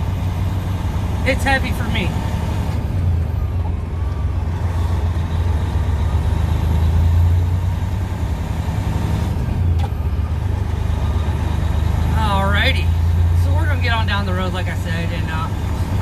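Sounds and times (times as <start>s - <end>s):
truck diesel engine droning: 0.0s - 16.0s.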